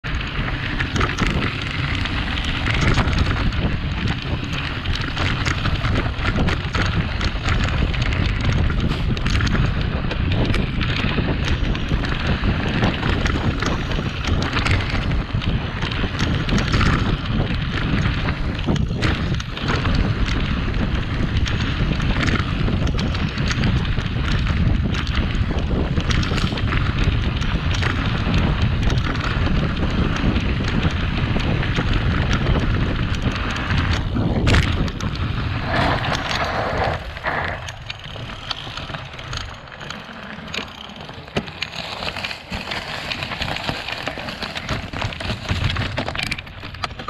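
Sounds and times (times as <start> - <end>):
bike clicks and rattles: 0.0 - 47.0
tyres rolling on dirt and gravel: 0.0 - 47.0
wind rush over microphone: 0.0 - 47.0.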